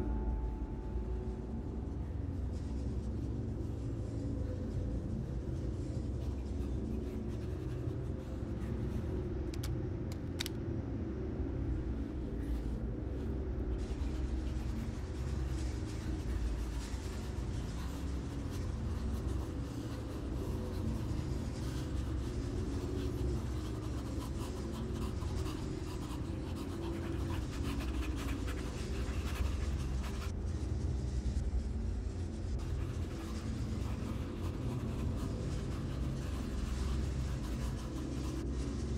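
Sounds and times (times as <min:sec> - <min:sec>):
steady low rumble: 0:00.0 - 0:38.9.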